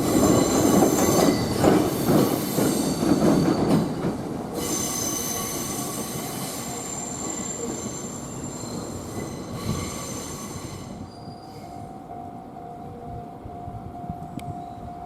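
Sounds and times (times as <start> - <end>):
rumble of train wheels: 0.0 - 15.0
train wheels squealing on rails: 0.0 - 15.0.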